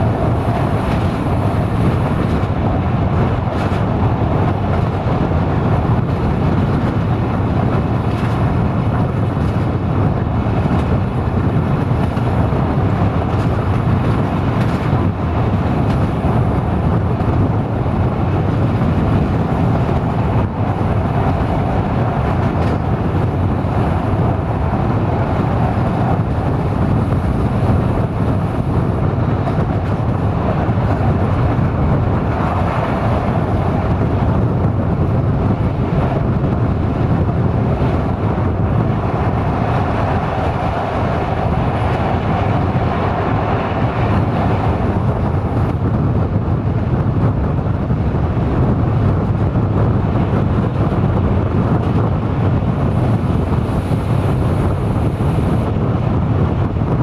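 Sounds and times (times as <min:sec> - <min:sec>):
railcar engine drone: 0:00.0 - 0:57.0
wheel-on-rail rumble: 0:00.0 - 0:57.0.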